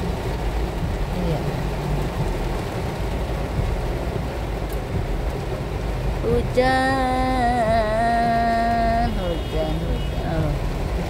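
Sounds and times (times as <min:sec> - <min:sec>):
heavy rain on car roof: 0:00.0 - 0:11.0
low engine and tyre rumble: 0:00.0 - 0:11.0.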